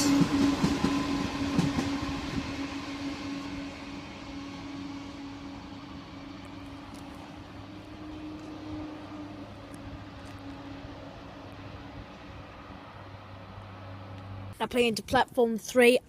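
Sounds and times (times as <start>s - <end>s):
high-speed train pulling out: 0.0s - 14.6s.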